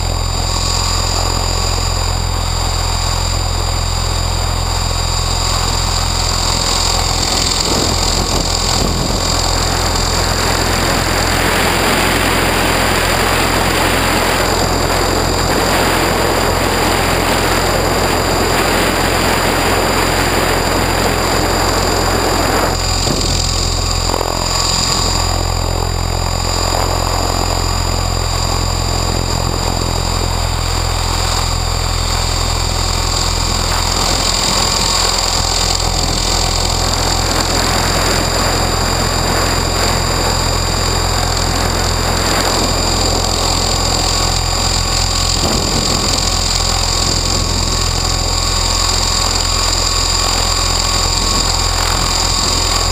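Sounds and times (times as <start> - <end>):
helicopter rotor drone: 0.0 - 52.9
high motor whine: 0.0 - 52.9
wind rushing on microphone: 0.0 - 52.9.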